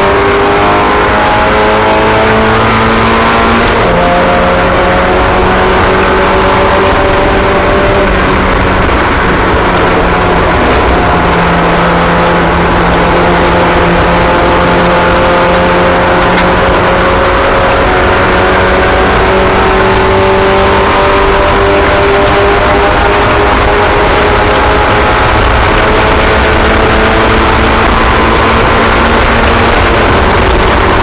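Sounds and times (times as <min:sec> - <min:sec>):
race car engines at speed: 0:00.0 - 0:31.0.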